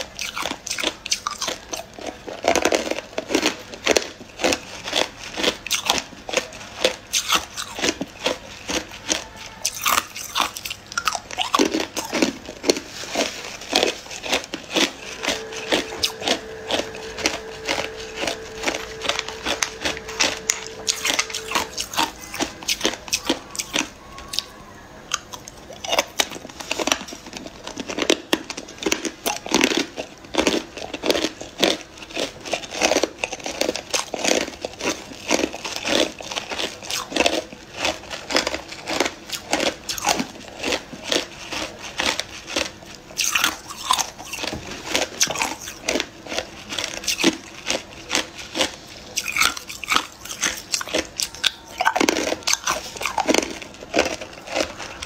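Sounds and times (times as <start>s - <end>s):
person crunching ice cubes: 0.0s - 55.0s.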